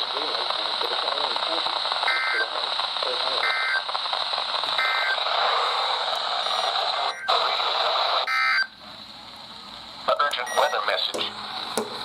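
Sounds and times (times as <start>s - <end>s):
radio static hissing: 0.0s - 12.0s.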